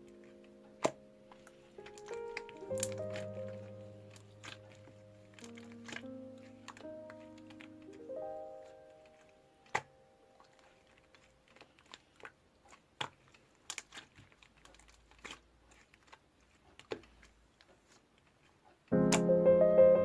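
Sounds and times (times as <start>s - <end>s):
slime clicking and popping: 0.0s - 17.4s.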